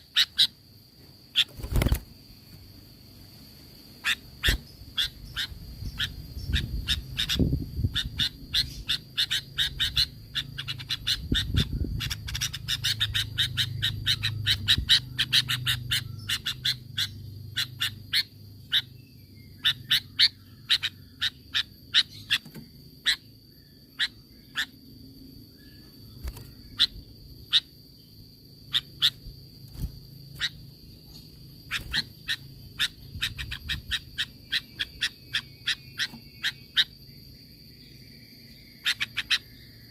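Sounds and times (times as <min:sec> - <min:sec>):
bird chattering calls: 0:00.0 - 0:00.7, 0:01.3 - 0:02.1, 0:04.0 - 0:24.9, 0:26.2 - 0:27.8, 0:28.6 - 0:37.4, 0:38.5 - 0:39.9.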